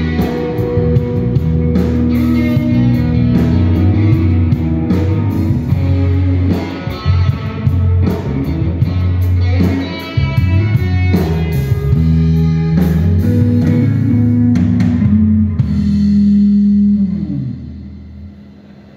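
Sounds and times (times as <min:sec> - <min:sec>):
live rock band playing: 0:00.0 - 0:18.4.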